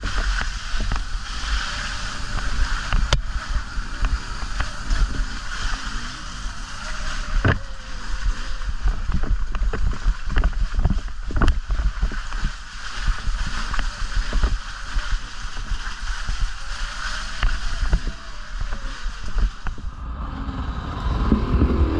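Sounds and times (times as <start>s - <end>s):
wind rumble on microphone: 0.0s - 21.9s.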